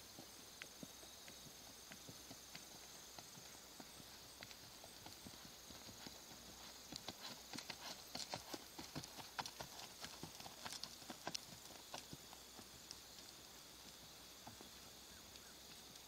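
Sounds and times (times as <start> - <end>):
horse hooves cantering on sand: 0.0 - 16.0.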